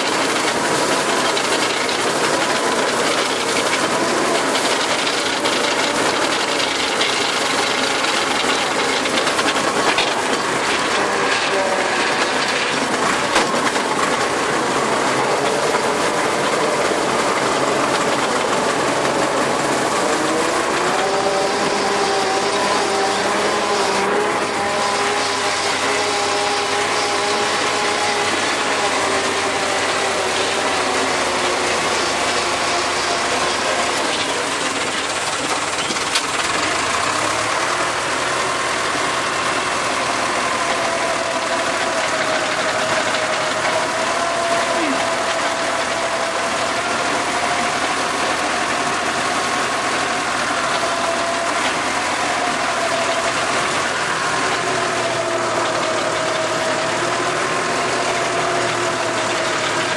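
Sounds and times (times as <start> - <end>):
rotary tiller churning soil: 0.0 - 59.9
tractor engine running: 0.0 - 59.9.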